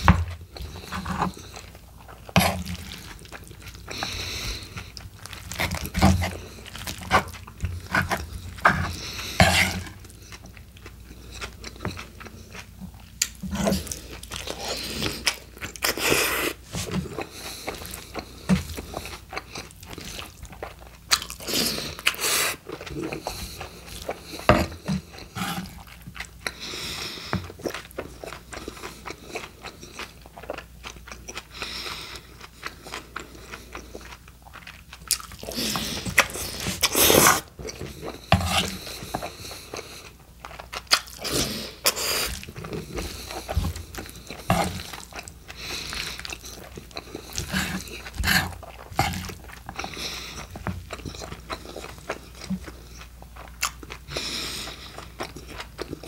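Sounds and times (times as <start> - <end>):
chewing with wet smacking: 0.0 - 56.0.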